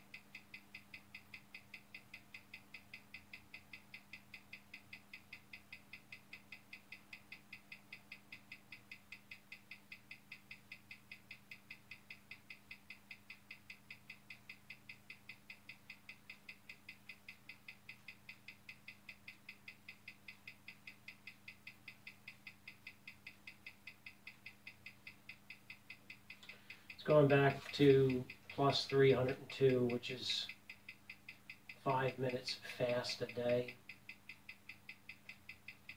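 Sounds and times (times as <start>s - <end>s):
watch ticking: 0.0s - 35.9s.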